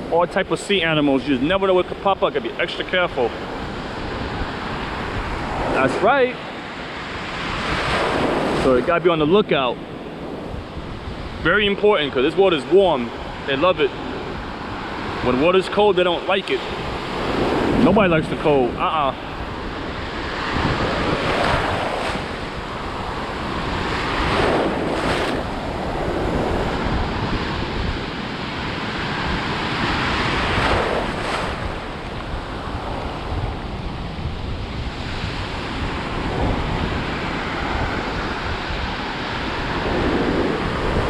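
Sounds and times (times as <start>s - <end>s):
ocean waves breaking: 0.0s - 41.0s
wind buffeting microphone: 0.0s - 41.0s.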